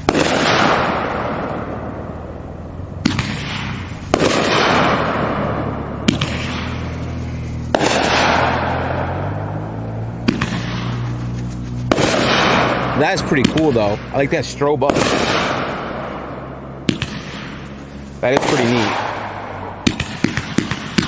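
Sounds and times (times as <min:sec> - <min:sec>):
firework shells bursting: 0:00.0 - 0:14.2, 0:14.8 - 0:21.0.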